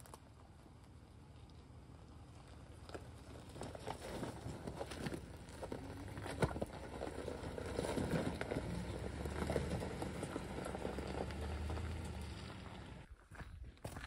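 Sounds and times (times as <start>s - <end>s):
truck engine hum: 0.0s - 13.2s
stones crunching under tyres: 0.0s - 14.0s.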